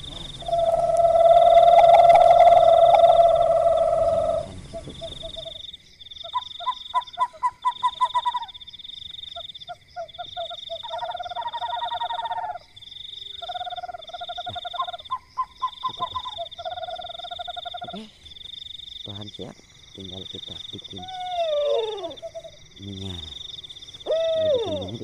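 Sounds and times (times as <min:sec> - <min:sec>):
frogs calling: 0:00.0 - 0:25.0.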